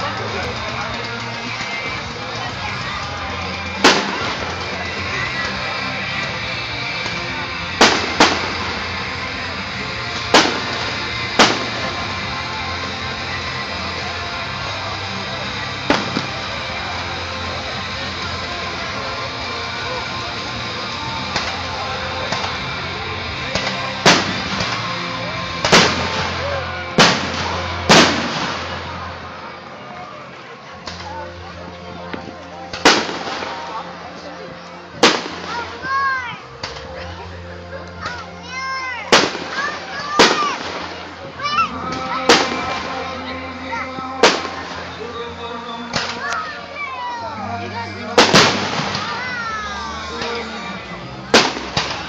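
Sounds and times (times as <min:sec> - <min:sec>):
fireworks bangs with echo: 0:00.0 - 0:29.8, 0:30.8 - 0:37.0, 0:39.0 - 0:46.5, 0:47.7 - 0:52.0
music playing: 0:00.0 - 0:52.0.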